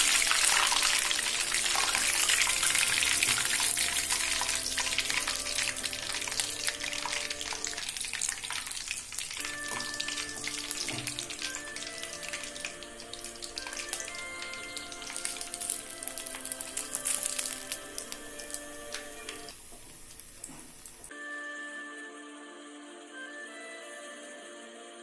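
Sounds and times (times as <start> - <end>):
hot oil sizzling and crackling: 0.0 - 21.1.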